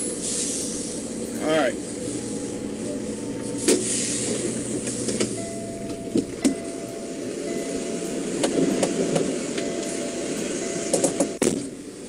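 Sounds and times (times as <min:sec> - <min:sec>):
truck cab background noise: 0:00.0 - 0:12.0.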